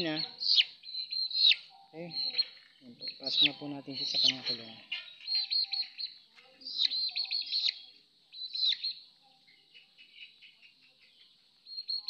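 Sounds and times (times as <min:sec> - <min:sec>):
chick peeping: 0:00.0 - 0:12.0.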